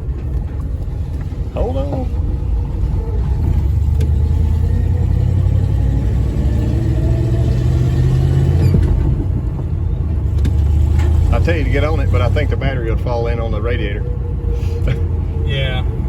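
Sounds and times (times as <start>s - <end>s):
pickup truck engine accelerating: 0.0s - 16.0s.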